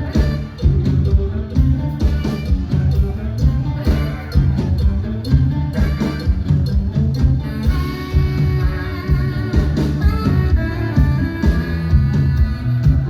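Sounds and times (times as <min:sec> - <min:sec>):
drum kit beat: 0:00.0 - 0:13.0
guitar: 0:00.0 - 0:13.0
live band music: 0:00.0 - 0:13.0.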